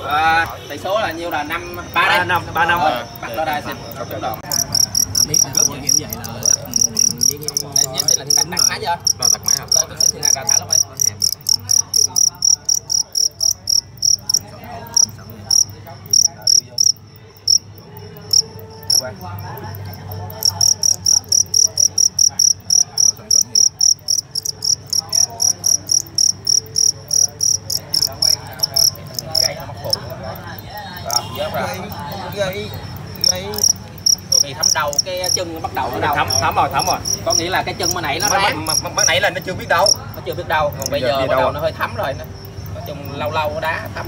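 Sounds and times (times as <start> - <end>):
crickets chirping: 0.0 - 44.0.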